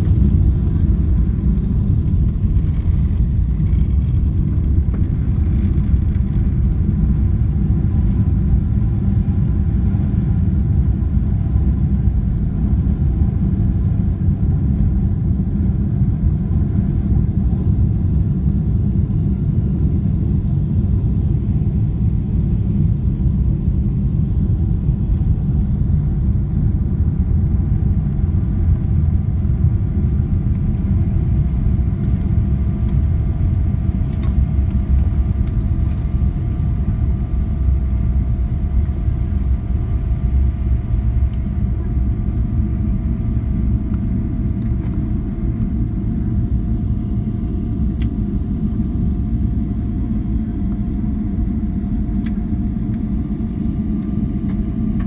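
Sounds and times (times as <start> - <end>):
aircraft cabin rumble on runway: 0.0 - 55.0
faint engine tones: 0.0 - 55.0.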